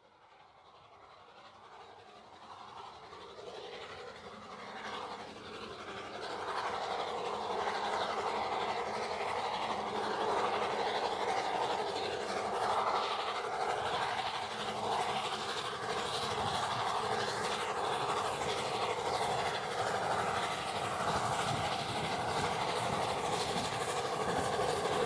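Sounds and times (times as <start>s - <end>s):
model train motor hum: 0.0s - 25.0s
wheels running on rails: 1.0s - 25.0s.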